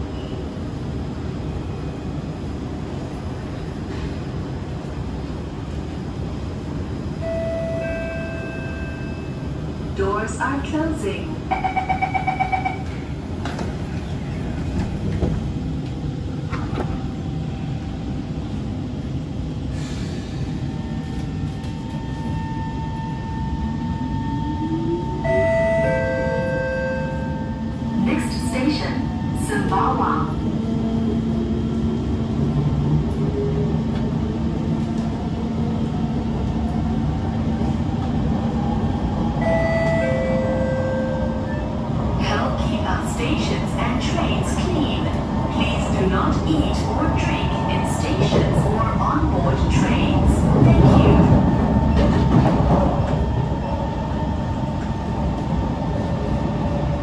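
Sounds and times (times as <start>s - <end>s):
train carriage hum: 0.0s - 57.0s.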